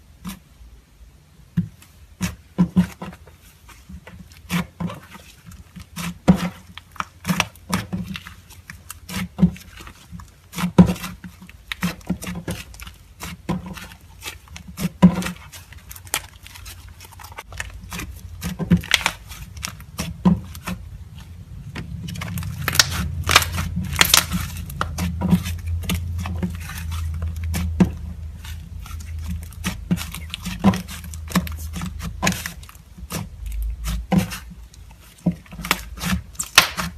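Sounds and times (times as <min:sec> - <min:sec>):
slime squished by hand: 0:04.1 - 0:36.9.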